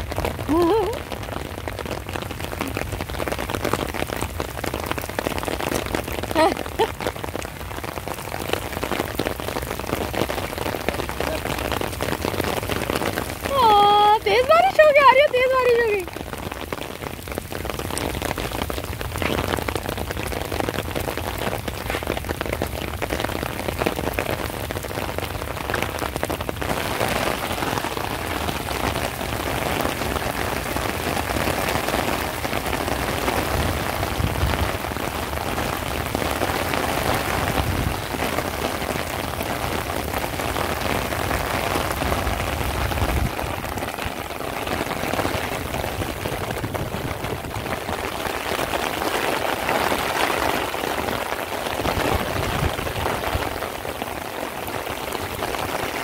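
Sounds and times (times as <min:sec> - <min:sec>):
heavy rain on wet pavement: 0:00.0 - 0:56.0.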